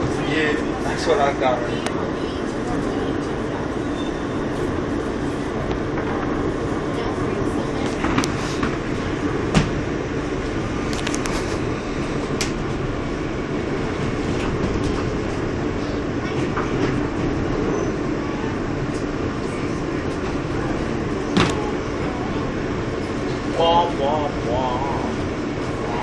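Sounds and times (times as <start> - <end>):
subway car rumbling on track: 0.0 - 26.0.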